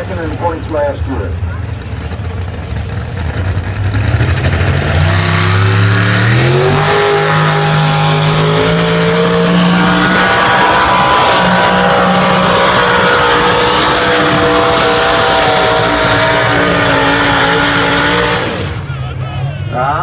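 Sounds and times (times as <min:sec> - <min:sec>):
tractor engine revving hard: 0:01.6 - 0:19.0.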